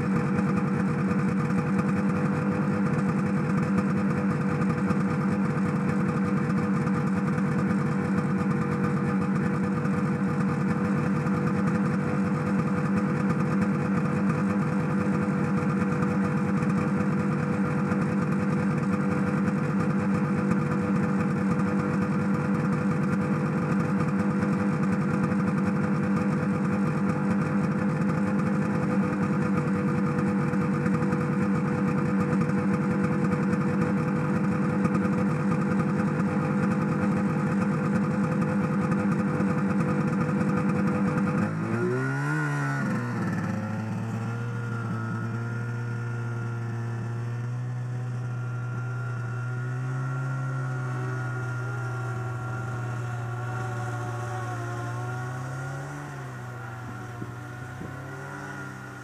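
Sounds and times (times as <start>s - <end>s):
snowmobile engine idling and revving: 0.0s - 59.0s.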